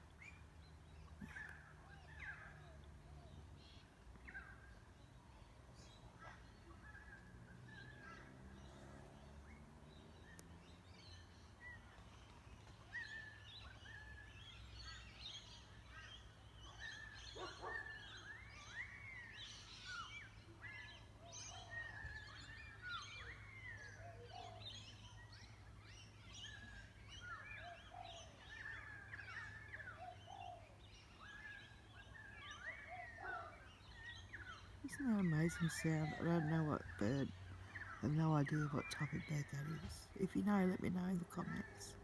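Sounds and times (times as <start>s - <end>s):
distant chorus of birds: 0.0s - 42.0s.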